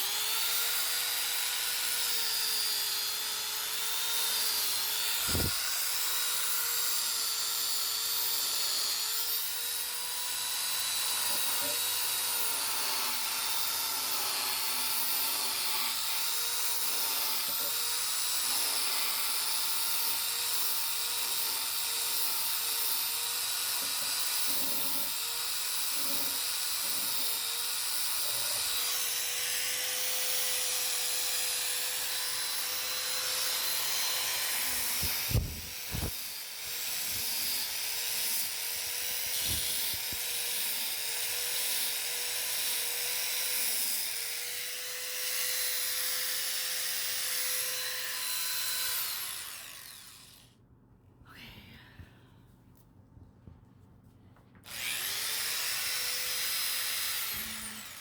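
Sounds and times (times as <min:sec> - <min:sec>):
power sander on wood: 0:00.0 - 0:19.4, 0:20.3 - 0:43.6, 0:44.4 - 0:50.4, 0:54.6 - 0:58.0.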